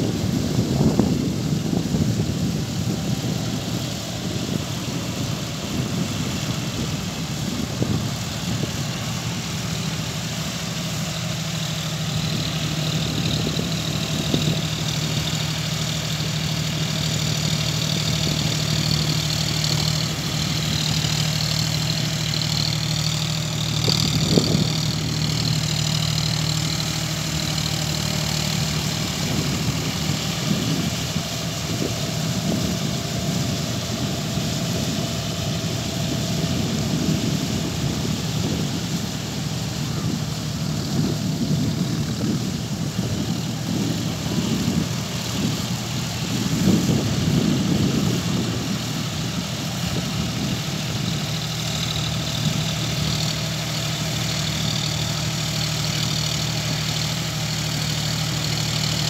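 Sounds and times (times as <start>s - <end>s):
tractor diesel engine drone: 0.0s - 59.0s.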